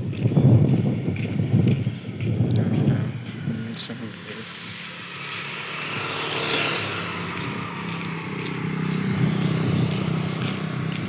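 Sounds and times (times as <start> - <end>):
road noise: 0.0 - 11.0
vehicle engine running: 0.0 - 11.0.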